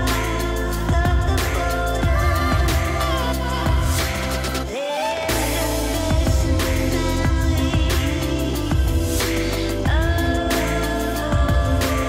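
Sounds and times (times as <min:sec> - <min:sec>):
pop song with strong bass: 0:00.0 - 0:12.0.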